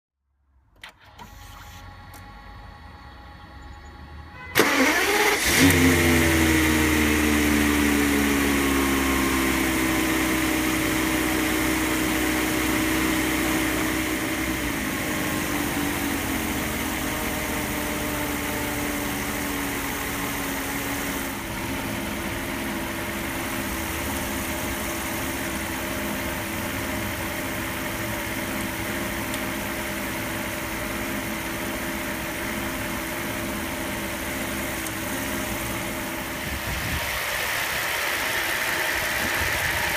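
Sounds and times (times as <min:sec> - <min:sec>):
car engine idling rough: 0:01.4 - 0:39.9.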